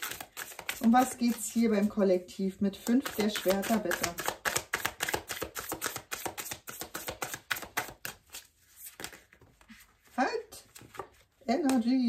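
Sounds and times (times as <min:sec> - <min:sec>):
cards being shuffled: 0:00.0 - 0:02.0, 0:02.8 - 0:12.0.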